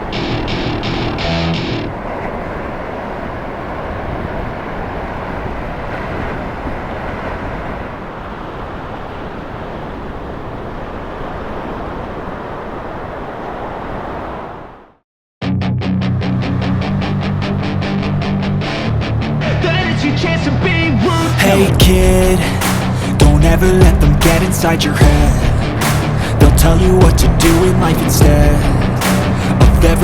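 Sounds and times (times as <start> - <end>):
ocean surf roar: 0.0 - 15.0, 16.0 - 30.0
wind: 0.0 - 15.0, 16.1 - 30.0.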